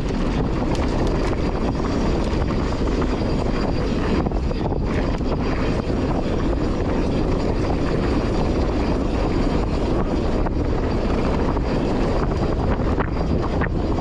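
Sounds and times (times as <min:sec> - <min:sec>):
bike rattles and knocks: 0:00.0 - 0:14.0
wind rushing over microphone: 0:00.0 - 0:14.0.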